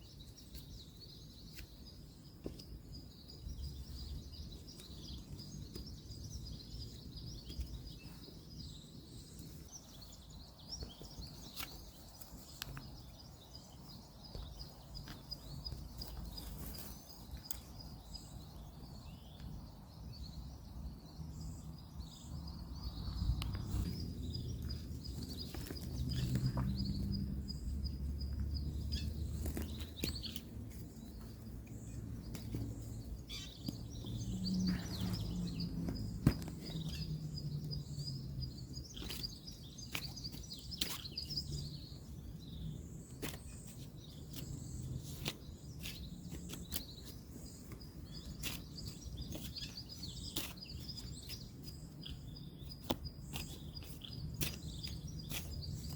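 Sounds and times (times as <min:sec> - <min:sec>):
distant road traffic rumble: 0:03.1 - 0:55.9.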